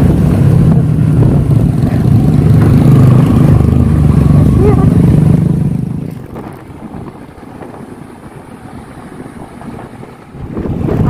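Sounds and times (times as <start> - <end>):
motorbike engine: 0.0 - 11.0
wind on microphone: 0.0 - 11.0.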